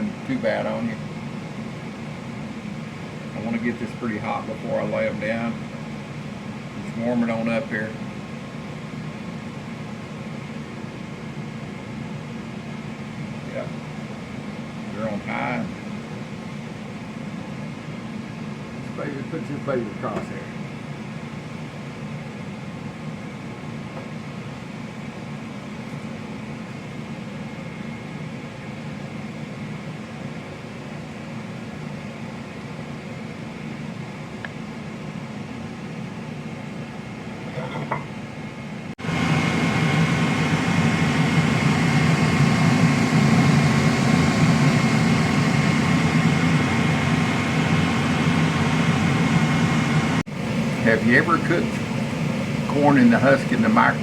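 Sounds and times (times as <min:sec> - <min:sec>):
vent hood fan running: 0:00.0 - 0:54.0.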